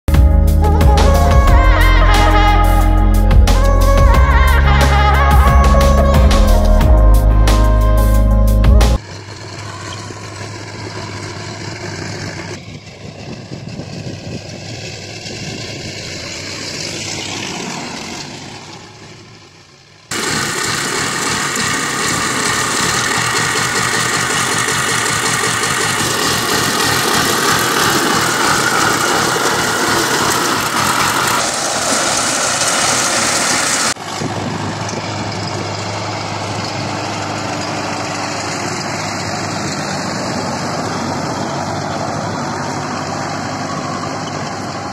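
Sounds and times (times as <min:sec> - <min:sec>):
power tiller diesel engine: 0:00.0 - 0:44.9
tractor with rotary tiller: 0:09.0 - 0:44.9.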